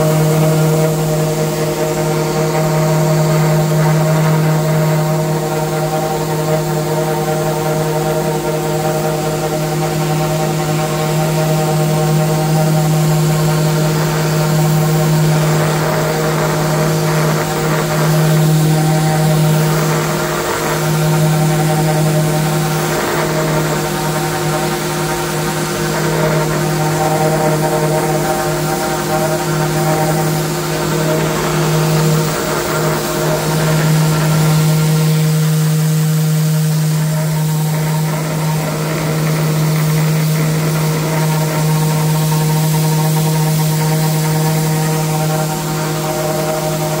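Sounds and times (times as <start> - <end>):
orbital sander humming: 0.0 - 47.0.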